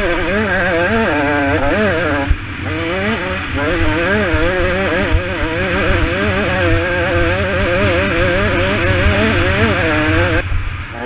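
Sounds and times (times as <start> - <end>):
dirt bike engine revving: 0.0 - 11.0
wind rumble on microphone: 0.0 - 11.0.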